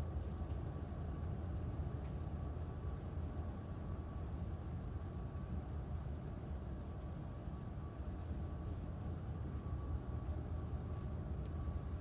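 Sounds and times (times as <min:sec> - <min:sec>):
low rumbling storm: 0:00.0 - 0:12.0.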